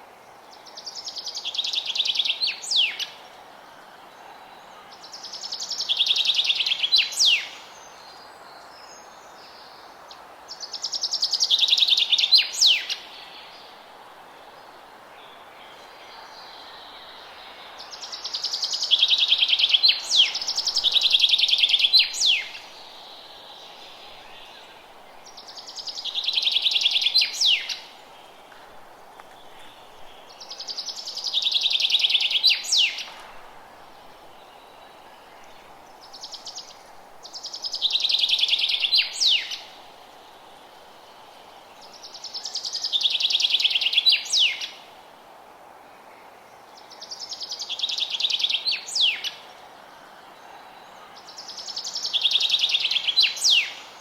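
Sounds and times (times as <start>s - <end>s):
faint forest hiss: 0.0s - 54.0s.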